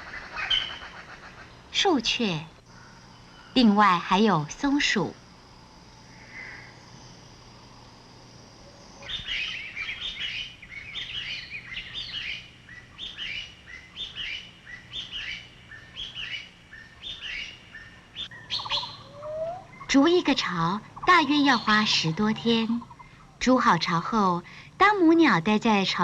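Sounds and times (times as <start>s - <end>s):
bird chirping phrases: 0.1s - 24.4s.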